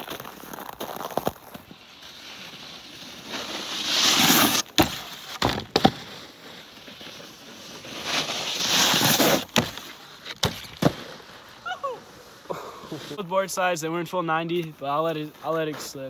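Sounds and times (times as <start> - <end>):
snowboards scraping over snow: 0.0 - 16.0.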